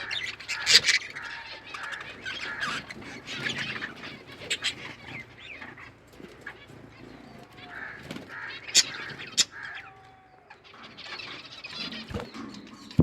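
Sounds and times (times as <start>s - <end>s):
budgerigars chirping: 0.0s - 13.0s
sharp loud bird calls: 0.0s - 13.0s.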